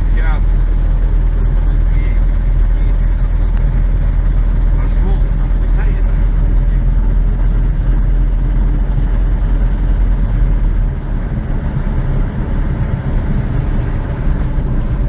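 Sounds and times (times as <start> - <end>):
aircraft engine and propeller droning: 0.0 - 15.0.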